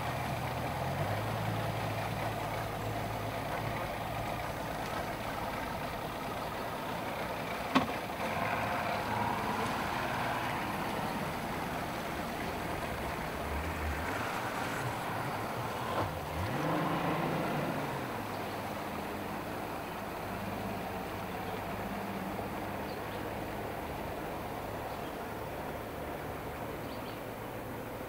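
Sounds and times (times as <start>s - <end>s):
water wash: 0.0s - 26.1s
outboard motors running: 0.0s - 28.0s.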